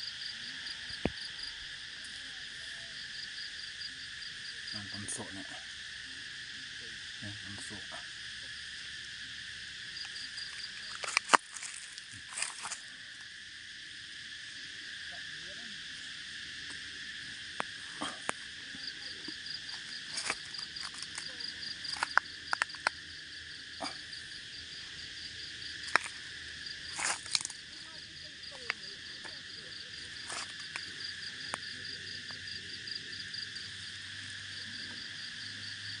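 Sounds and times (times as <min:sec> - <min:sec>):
cicadas droning: 0:00.0 - 0:36.0.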